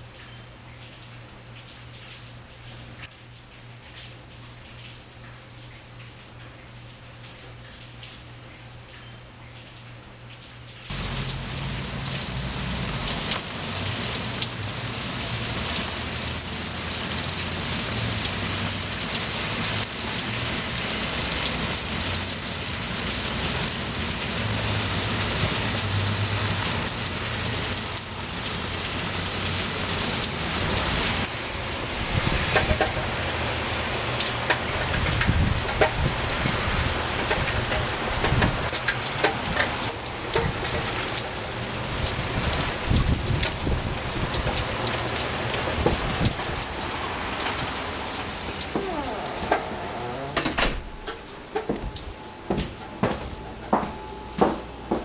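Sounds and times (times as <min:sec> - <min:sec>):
rain pattering: 0:00.0 - 0:53.8.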